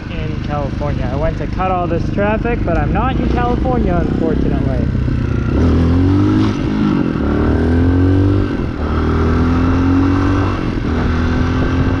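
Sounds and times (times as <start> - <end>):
dirt bike engine shifting gears: 0.0 - 12.0.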